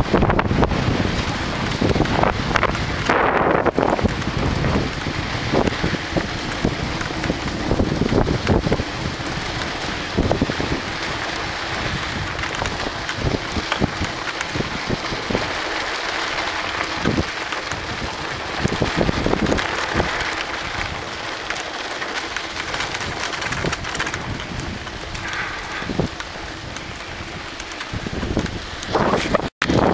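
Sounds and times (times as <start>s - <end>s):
bike knocks and rattles: 0.0s - 29.9s
tyres crunching over dirt: 0.0s - 29.9s
wind rushing over microphone: 0.0s - 29.9s.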